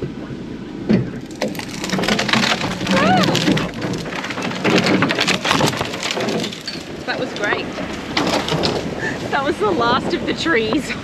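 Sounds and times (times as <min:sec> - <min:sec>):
branches crackling and scraping: 0:01.1 - 0:10.8.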